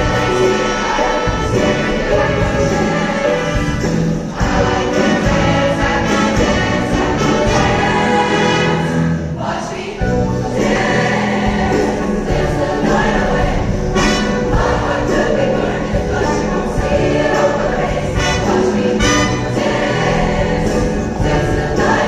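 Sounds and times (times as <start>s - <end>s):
choir singing with instruments: 0.0s - 22.0s.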